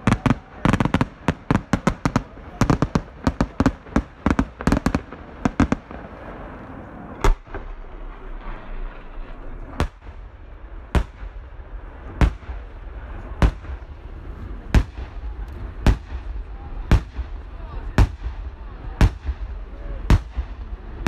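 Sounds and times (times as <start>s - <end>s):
firework bangs: 0.0s - 21.0s
firework crackling: 0.0s - 21.0s.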